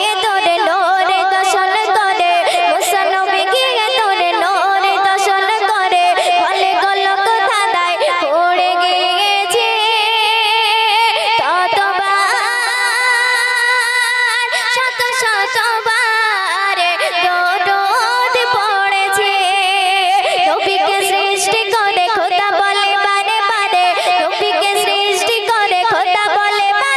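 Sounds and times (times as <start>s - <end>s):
girl singing into a microphone: 0.0s - 26.9s.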